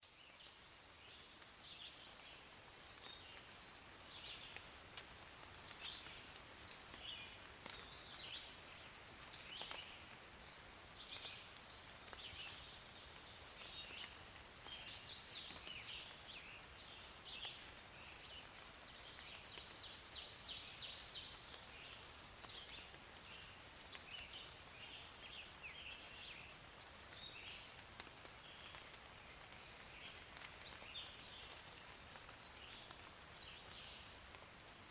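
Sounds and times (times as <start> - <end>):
soft steady hiss: 0.0 - 34.9
small birds chirping and trilling: 0.1 - 34.2.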